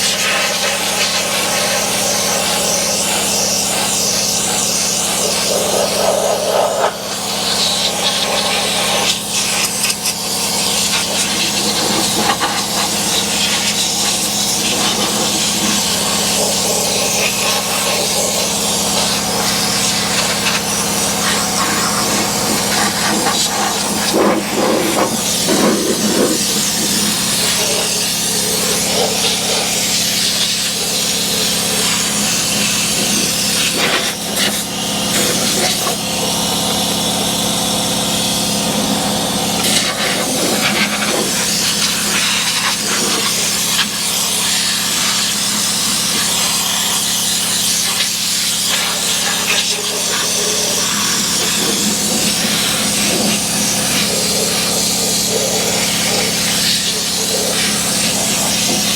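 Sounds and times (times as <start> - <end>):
spray gun hissing: 0.0 - 58.9.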